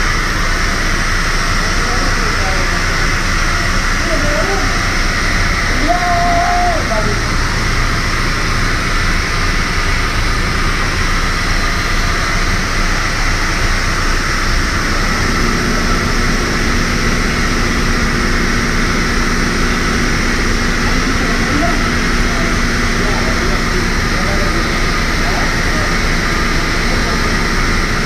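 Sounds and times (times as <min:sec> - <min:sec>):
high whine: 0:00.0 - 0:28.0
pressure washer drone: 0:00.0 - 0:28.0
low hum: 0:02.6 - 0:28.0.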